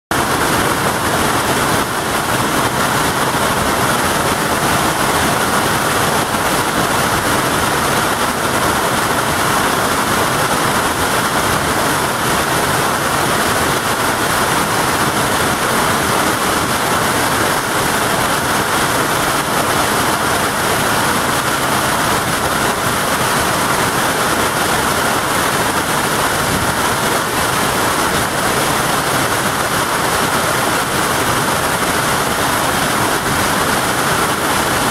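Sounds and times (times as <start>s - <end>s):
hail and heavy rain pelting: 0.2s - 34.9s.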